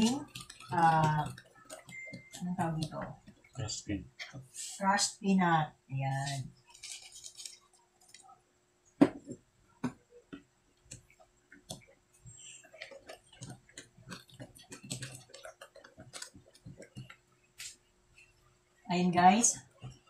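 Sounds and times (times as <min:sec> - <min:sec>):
batter mixing by hand: 0:00.0 - 0:04.9, 0:06.1 - 0:20.0.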